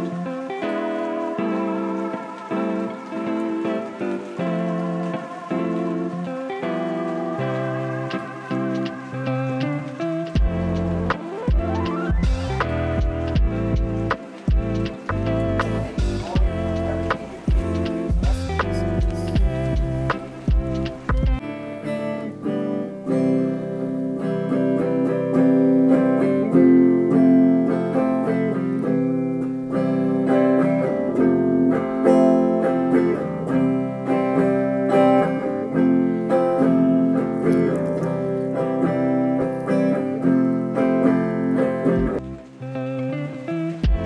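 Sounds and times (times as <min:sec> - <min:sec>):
electric guitar playing: 0:00.0 - 0:44.0.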